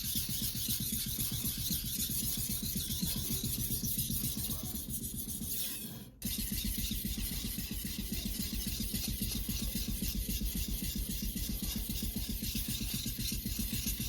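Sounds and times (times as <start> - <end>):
knife rasping on whetstone: 0.0 - 14.0.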